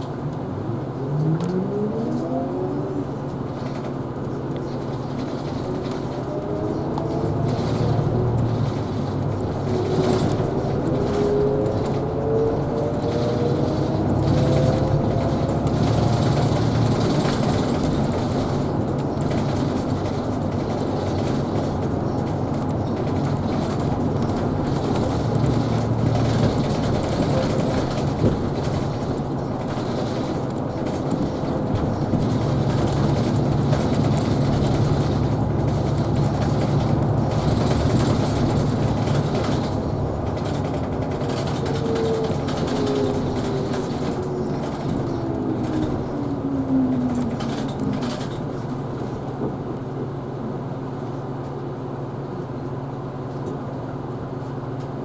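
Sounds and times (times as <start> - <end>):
bus drivetrain hum: 0.0 - 55.0
road and tyre noise: 0.0 - 55.0.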